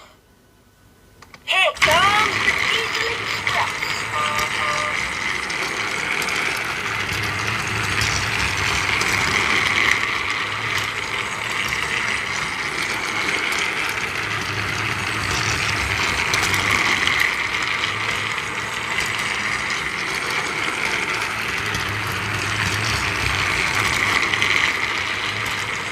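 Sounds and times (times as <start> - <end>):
toy train motor whirring: 1.8 - 25.9.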